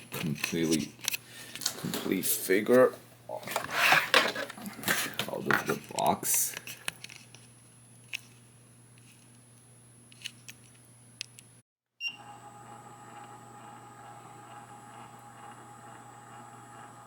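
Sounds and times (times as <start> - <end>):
faint hum with high whine: 0.0 - 17.0.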